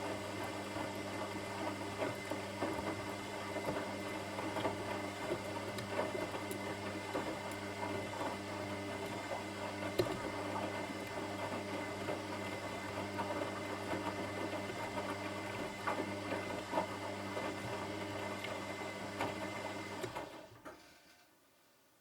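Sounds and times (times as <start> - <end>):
washing machine motor hum: 0.0 - 20.7.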